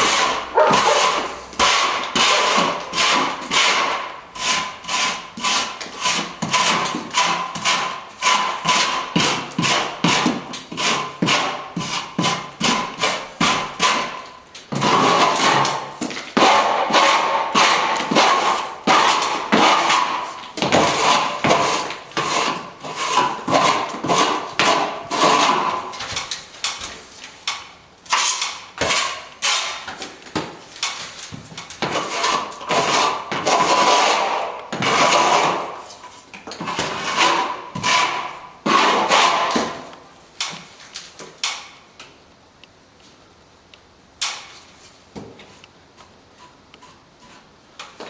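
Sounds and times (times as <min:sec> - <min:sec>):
hand tool scraping plaster wall: 0:00.0 - 0:41.7, 0:44.2 - 0:48.0.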